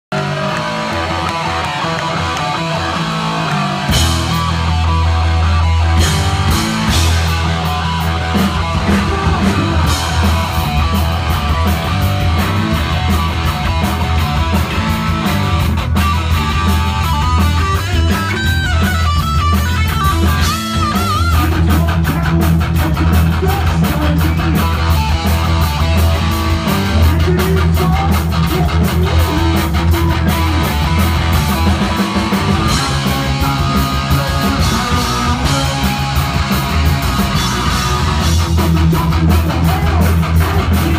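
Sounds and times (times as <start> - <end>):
bass guitar: 0.0 - 40.9
distorted electric guitar riffing: 0.1 - 40.9
fast drum kit: 0.1 - 40.9.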